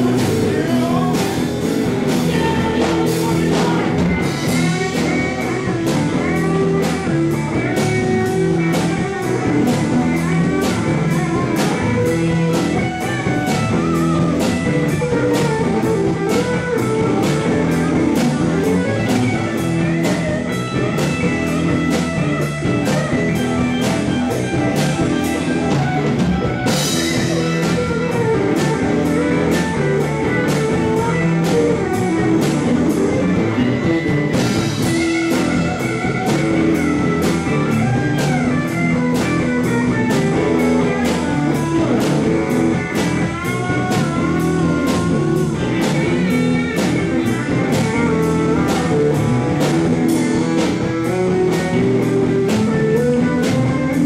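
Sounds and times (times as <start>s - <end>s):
blues-rock band playing: 0.0s - 54.0s.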